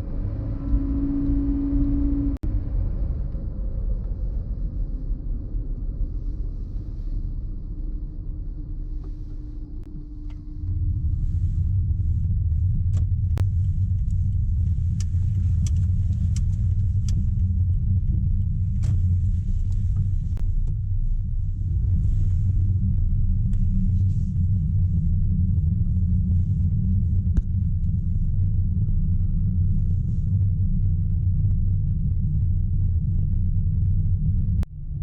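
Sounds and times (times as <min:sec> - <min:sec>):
faint steady hum: 0:00.0 - 0:35.0
tyres and wind rumble: 0:00.0 - 0:35.0.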